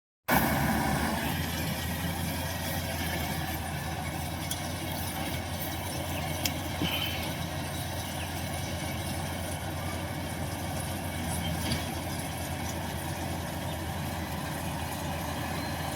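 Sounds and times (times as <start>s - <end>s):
harvester engine droning: 0.3s - 15.9s.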